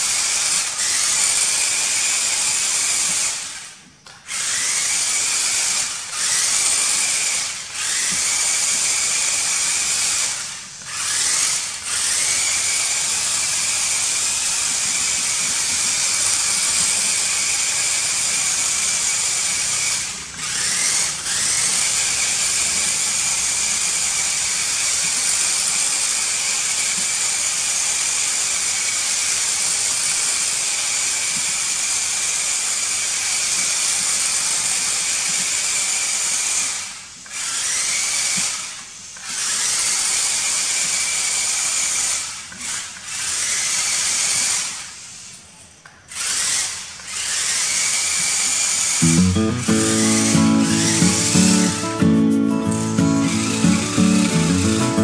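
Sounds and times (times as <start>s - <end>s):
toy car motors whining: 0.0s - 49.2s.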